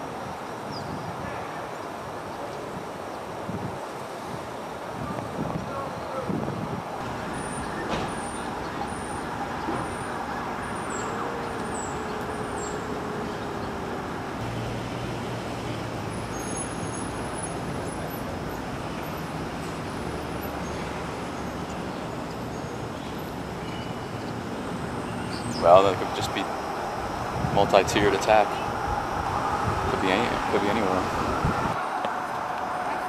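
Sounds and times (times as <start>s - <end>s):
city traffic noise: 0.0s - 33.0s.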